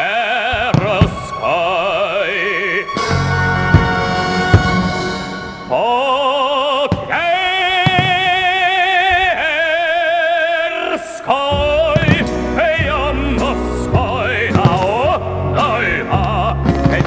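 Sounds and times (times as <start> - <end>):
operatic voice singing: 0.0 - 4.0, 5.6 - 17.0.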